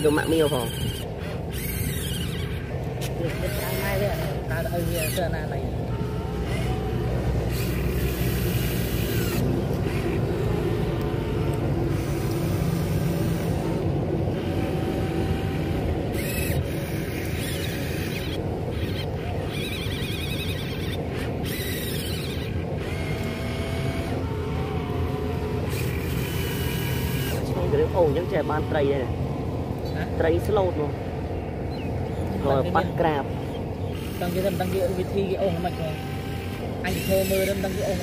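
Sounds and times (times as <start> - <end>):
low hum: 0.0 - 38.0
small electric motors whining: 0.0 - 38.0.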